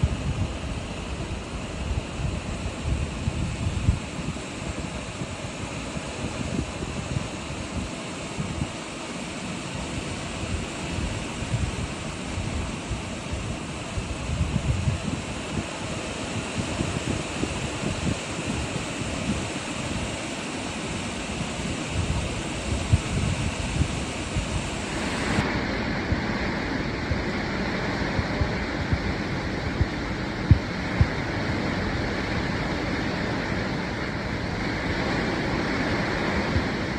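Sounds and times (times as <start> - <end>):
wind buffeting microphone: 0.0 - 8.9, 9.8 - 36.9
hurricane wind rushing: 0.0 - 36.9.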